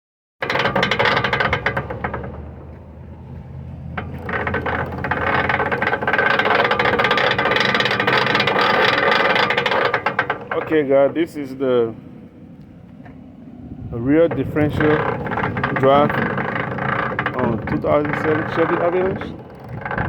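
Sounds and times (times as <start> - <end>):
differential rattling and clicking: 0.4 - 12.0, 14.2 - 20.0.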